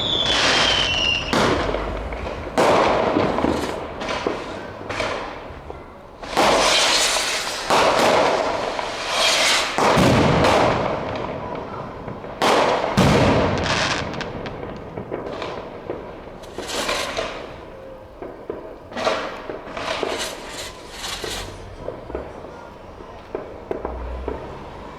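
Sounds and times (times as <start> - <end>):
fireworks bangs: 0.0 - 24.9
fireworks cracks and pops: 0.0 - 24.9.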